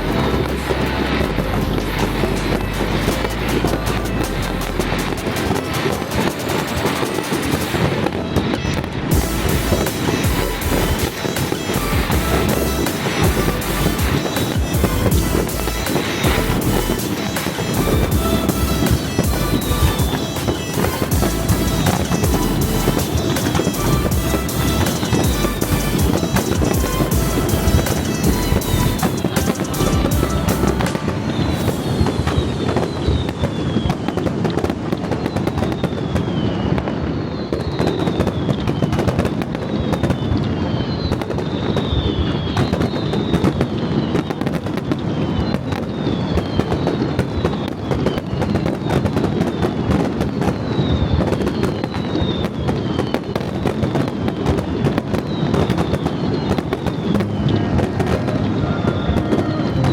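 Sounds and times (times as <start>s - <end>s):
fireworks crackling and bursting: 0.0s - 59.9s
falling firework whistles: 2.2s - 59.9s.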